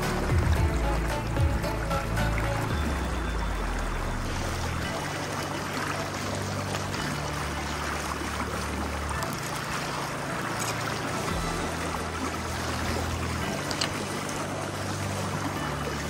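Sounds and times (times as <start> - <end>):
low background music: 0.0 - 16.0
river water rushing: 0.0 - 16.0.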